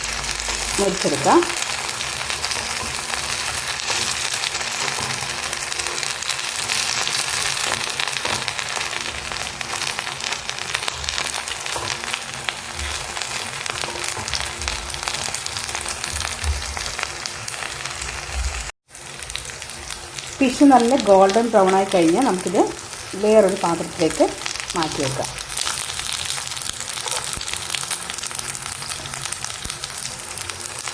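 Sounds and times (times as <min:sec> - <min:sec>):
fish sizzling in hot oil: 0:00.0 - 0:30.9.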